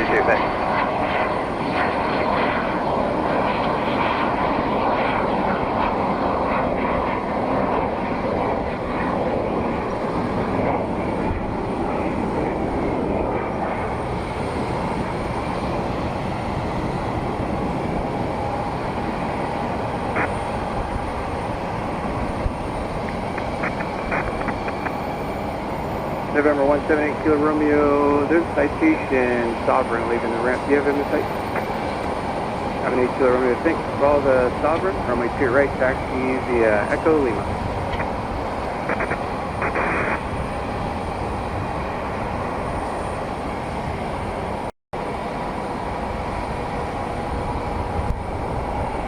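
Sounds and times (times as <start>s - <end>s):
jet engine drone: 0.0s - 49.0s.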